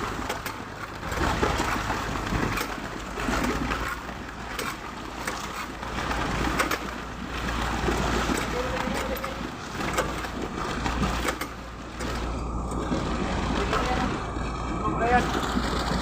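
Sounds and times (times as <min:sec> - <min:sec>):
truck engine humming: 0:00.0 - 0:16.0.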